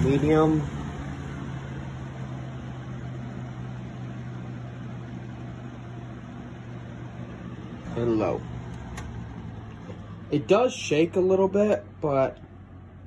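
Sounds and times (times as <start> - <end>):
fan air rushing: 0.0 - 13.0
fan motor hum: 0.0 - 13.0.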